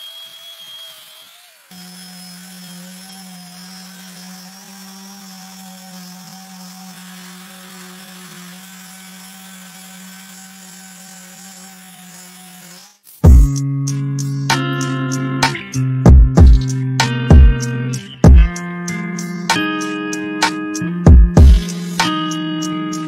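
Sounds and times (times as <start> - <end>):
orbital sander on wood: 0.0 - 15.6, 16.4 - 23.0
angle grinder: 0.0 - 23.0.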